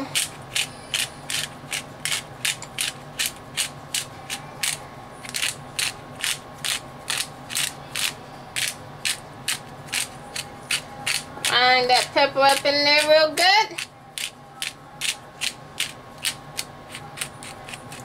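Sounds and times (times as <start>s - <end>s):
pepper mill grinding: 0.0s - 18.0s.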